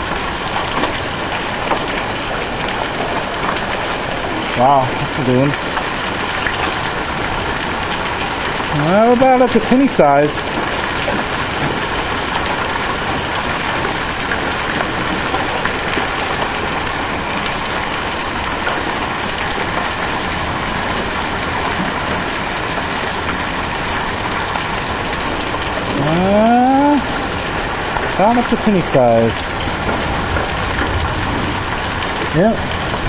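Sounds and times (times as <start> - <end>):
hailstones ticking: 0.0 - 33.0
heavy rain hissing: 0.0 - 33.0.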